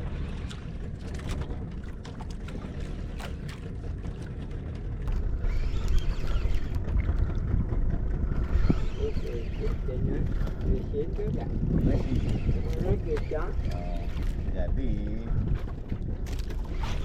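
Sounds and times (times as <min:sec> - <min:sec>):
water rumble: 0:00.0 - 0:17.0
wind: 0:00.0 - 0:17.0.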